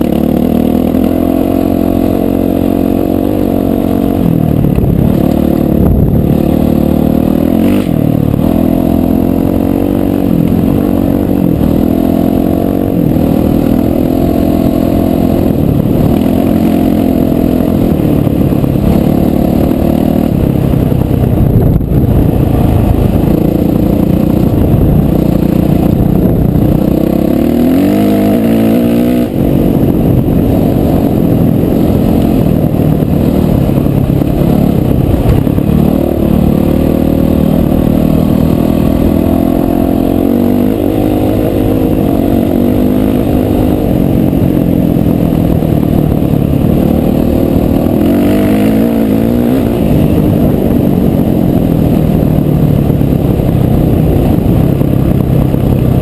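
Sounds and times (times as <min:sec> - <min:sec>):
off-road motorcycle engine revving: 0:00.0 - 0:56.0.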